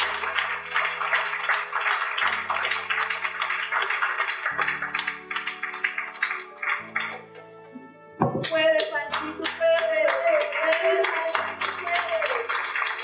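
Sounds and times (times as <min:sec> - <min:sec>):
audience clapping: 0:00.0 - 0:07.6, 0:08.4 - 0:13.0.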